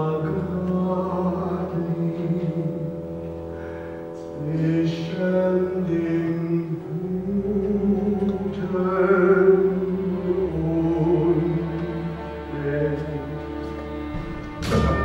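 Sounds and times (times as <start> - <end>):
man singing: 0.0 - 3.0, 4.2 - 13.8, 14.6 - 15.0
instrumental accompaniment: 0.0 - 15.0.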